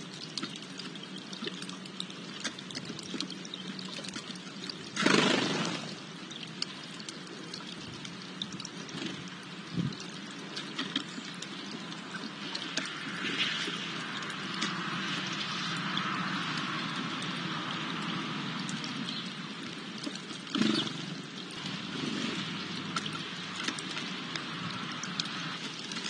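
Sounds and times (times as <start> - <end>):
fountain trickling and splashing: 0.0 - 26.0.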